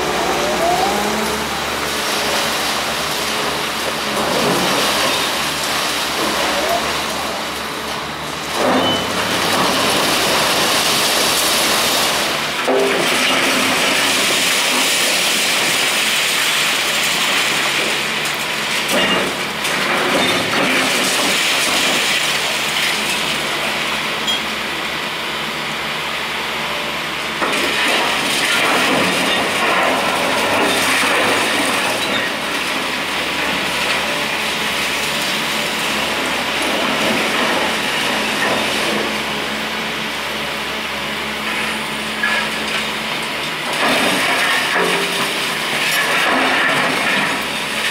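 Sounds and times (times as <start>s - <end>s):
concrete debris crashing down: 0.0s - 24.4s, 27.4s - 39.6s, 41.5s - 47.9s
excavator engine and hydraulics: 0.0s - 47.9s.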